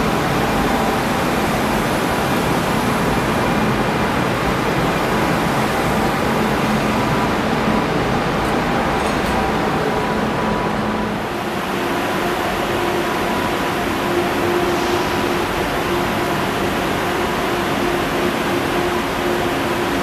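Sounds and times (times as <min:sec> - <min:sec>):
electric train rolling past: 0:00.0 - 0:20.0.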